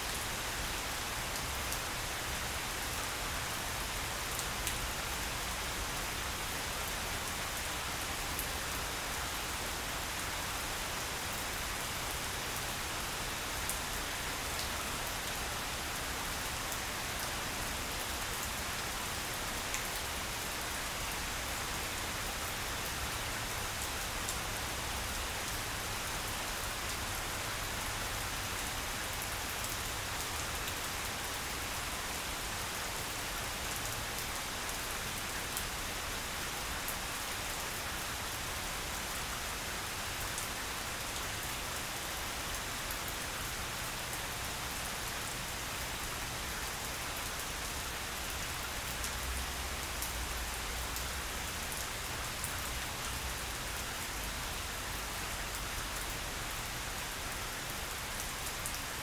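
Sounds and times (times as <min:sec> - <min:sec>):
rain falling on grass: 0:00.0 - 0:59.0.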